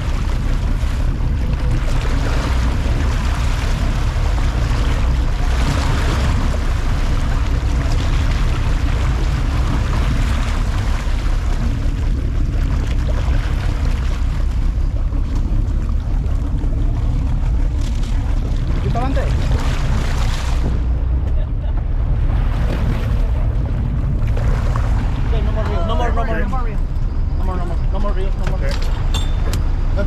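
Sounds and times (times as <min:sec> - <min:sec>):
boat engine rumbling: 0:00.0 - 0:30.0
wind and water rushing: 0:00.0 - 0:30.0.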